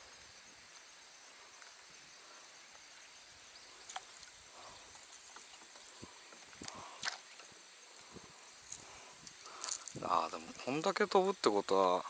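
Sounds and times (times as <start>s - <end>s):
faint insect hum: 0.0s - 12.0s.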